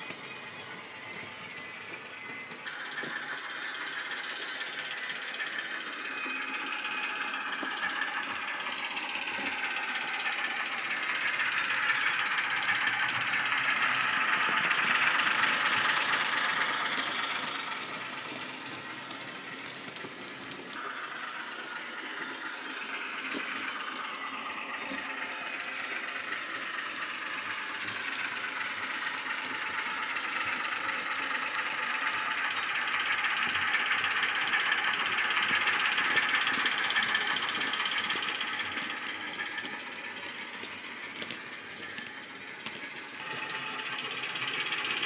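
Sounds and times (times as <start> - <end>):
diesel engine sound from small speaker: 0.0 - 45.0.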